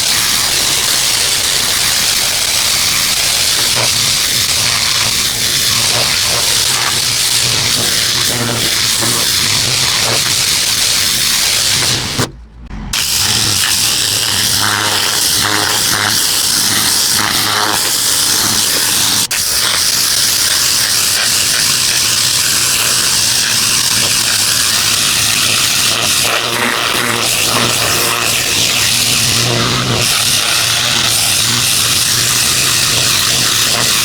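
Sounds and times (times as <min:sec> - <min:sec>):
pressure washer spraying concrete: 0:00.0 - 0:12.3, 0:12.9 - 0:34.0.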